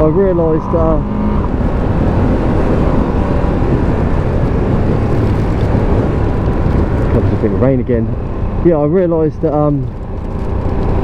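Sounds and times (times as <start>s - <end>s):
motorcycle engine: 0.0s - 11.0s
road noise: 0.0s - 11.0s
wind rushing on microphone: 0.0s - 11.0s.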